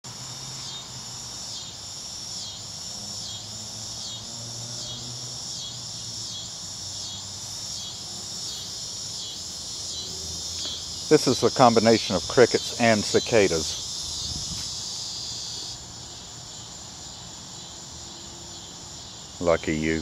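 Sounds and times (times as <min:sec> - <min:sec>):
cicadas pulsing buzz: 0:00.0 - 0:20.0
insect high drone: 0:00.0 - 0:20.0.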